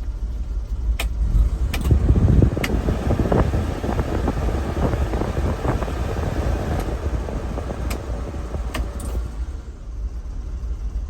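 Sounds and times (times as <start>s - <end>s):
small truck engine running: 0.0s - 11.0s.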